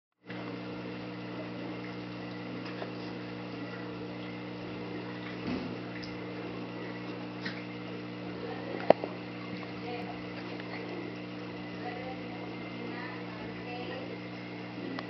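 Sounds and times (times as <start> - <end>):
electrical hum of aquarium: 0.2 - 15.0.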